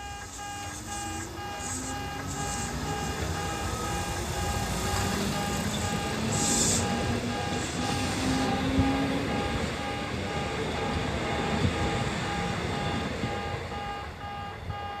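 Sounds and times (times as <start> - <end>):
train rumbling past: 0.0 - 14.8
level crossing warning bell: 0.0 - 15.0.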